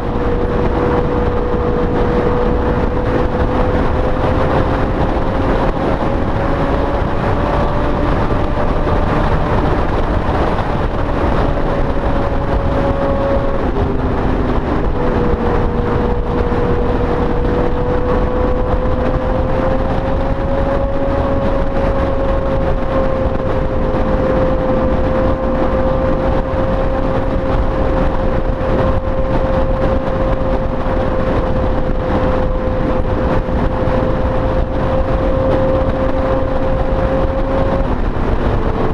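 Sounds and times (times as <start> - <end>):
motorcycle engine hum: 0.0 - 38.9
wind and road noise: 0.0 - 38.9.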